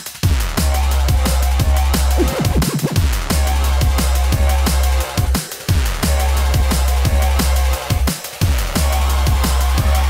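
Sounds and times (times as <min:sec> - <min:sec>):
drum and bass music: 0:00.4 - 0:10.0.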